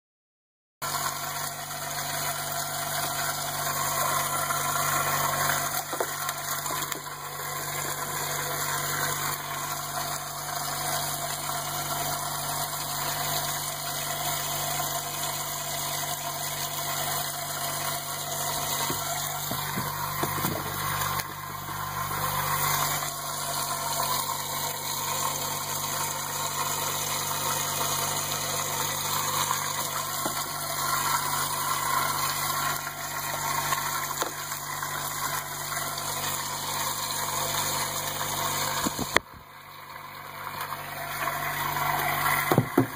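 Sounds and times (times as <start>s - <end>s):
water churning hiss: 0.8s - 39.4s
pump motor hum: 0.8s - 42.9s.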